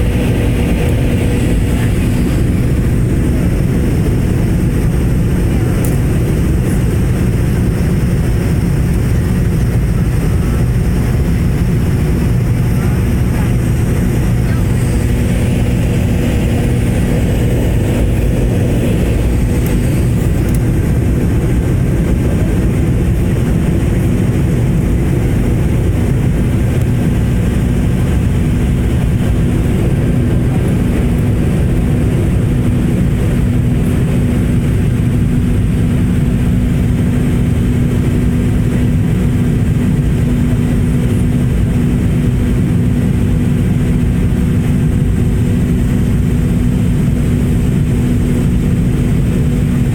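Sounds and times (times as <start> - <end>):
airliner engine rumble in cabin: 0.0 - 49.9.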